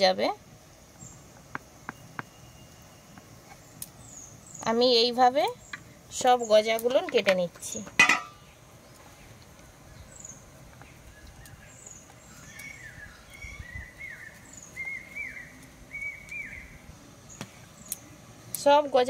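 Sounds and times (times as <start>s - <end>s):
birds chirping: 0.9s - 18.5s.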